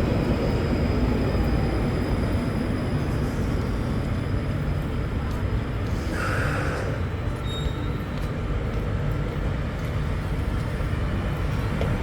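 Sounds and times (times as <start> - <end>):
light-rail train rumbling: 0.0 - 12.0.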